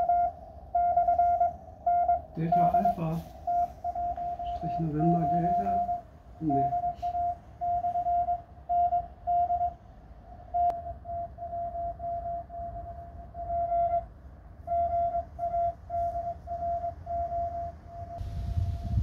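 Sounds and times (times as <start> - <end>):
morse code tone: 0.0 - 18.2
low hum: 0.0 - 19.0.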